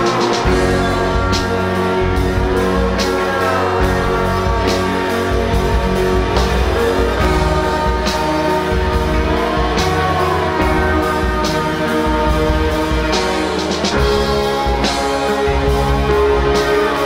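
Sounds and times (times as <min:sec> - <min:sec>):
sliding melody line: 0:00.0 - 0:17.0
sustained guitar and bass chords: 0:00.0 - 0:17.0.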